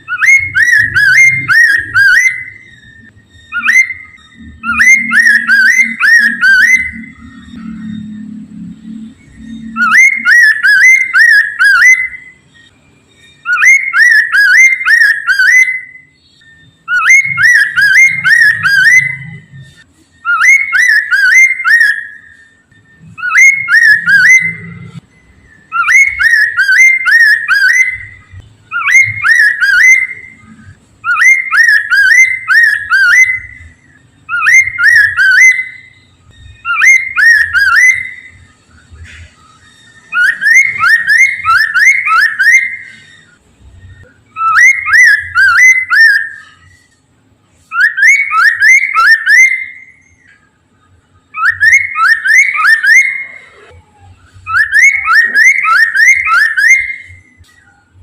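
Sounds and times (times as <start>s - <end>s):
bird singing whistled phrase: 0.0s - 8.4s, 9.3s - 46.9s, 47.7s - 50.4s, 51.3s - 57.9s.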